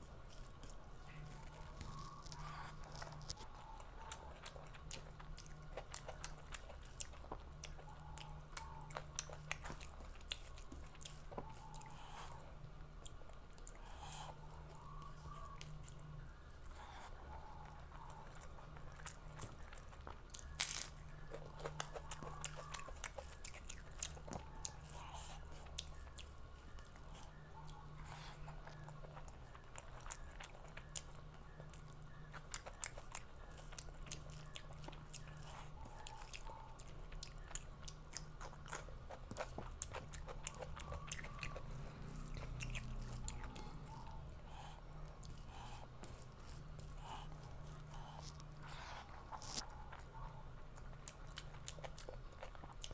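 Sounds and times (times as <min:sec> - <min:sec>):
chewing and crunching food: 0:00.0 - 0:52.9
low steady hum: 0:00.0 - 0:52.9.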